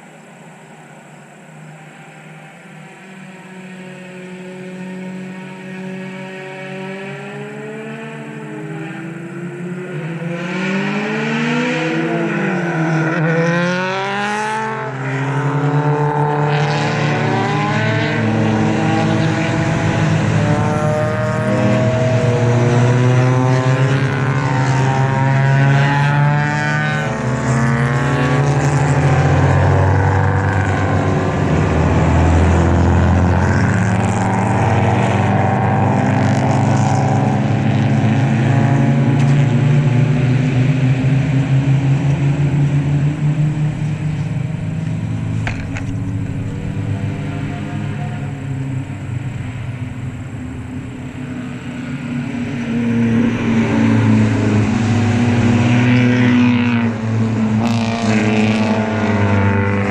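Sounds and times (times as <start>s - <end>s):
race cars driving past: 0.0s - 59.9s.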